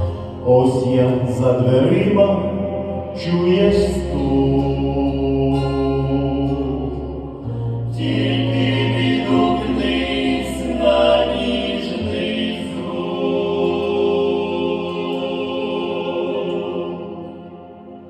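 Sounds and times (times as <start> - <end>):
held instrumental accompaniment: 0.0 - 18.0
vocal group singing a chord: 0.0 - 18.0.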